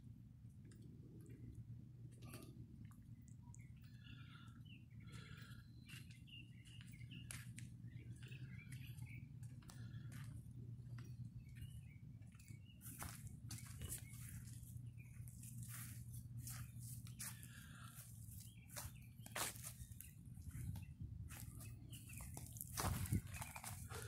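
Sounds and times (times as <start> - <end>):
steady low hum: 0.0 - 24.0
faint bird chirps: 2.2 - 24.0.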